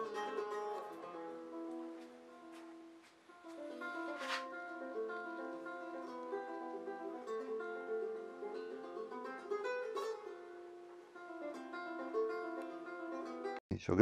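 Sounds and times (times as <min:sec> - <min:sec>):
plucked guitar music: 0:00.0 - 0:13.6.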